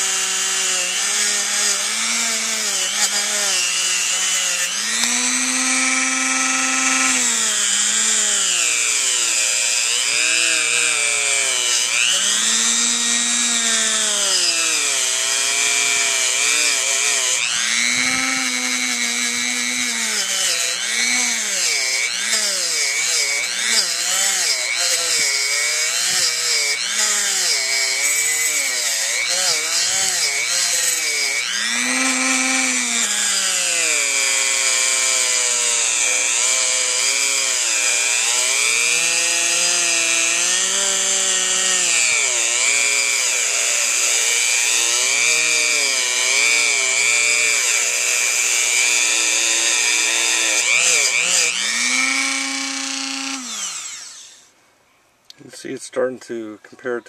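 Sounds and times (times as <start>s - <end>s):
rotary tool wire brush whine: 0.0s - 54.6s.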